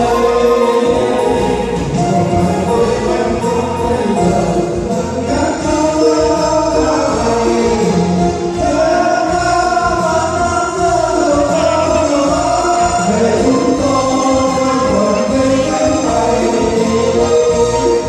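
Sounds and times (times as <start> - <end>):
choir singing held notes: 0.0 - 18.0.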